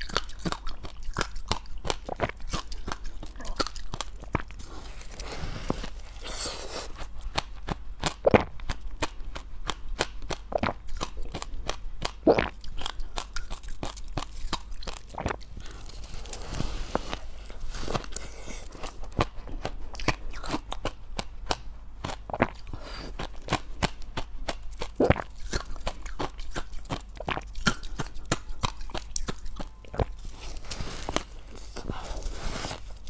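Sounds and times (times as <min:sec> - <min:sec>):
chewing crunchy ice: 0:00.0 - 0:33.0.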